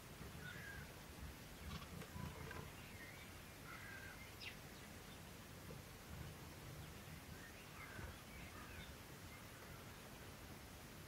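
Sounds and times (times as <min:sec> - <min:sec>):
birds chirping: 0:00.2 - 0:10.4.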